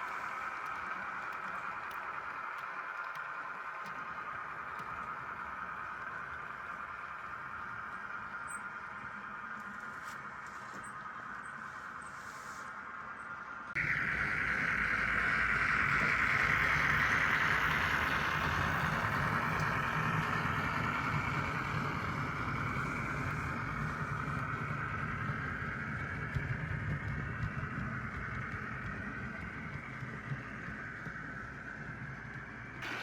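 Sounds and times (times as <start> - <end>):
diesel engine sound from speaker: 0.0 - 33.0
model train running noise: 0.0 - 33.0.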